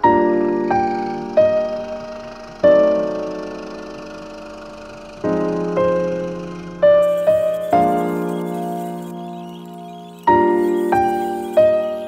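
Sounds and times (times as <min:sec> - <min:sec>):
soft electric piano chords: 0:00.0 - 0:12.0.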